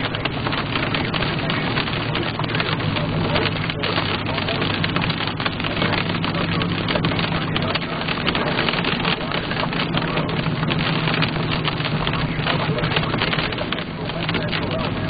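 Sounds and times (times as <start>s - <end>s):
car engine and tyre drone: 0.0s - 15.0s
rain hitting a car: 0.0s - 15.0s.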